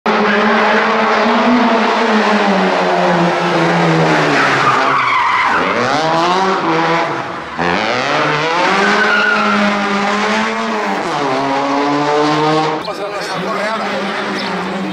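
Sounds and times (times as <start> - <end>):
rally car engine revving: 0.1 - 14.9
tyres skidding on tarmac: 0.1 - 14.9.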